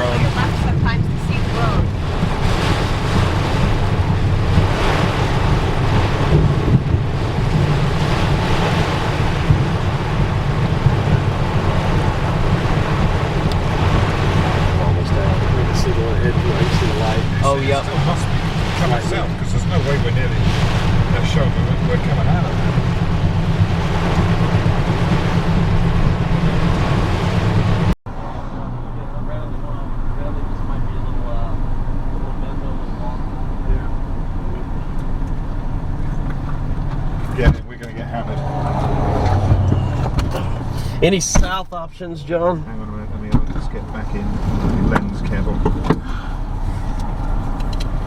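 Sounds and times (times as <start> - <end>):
heavy rain beating on car: 0.0 - 28.0, 29.4 - 48.0
tyres and engine drone: 0.0 - 48.0.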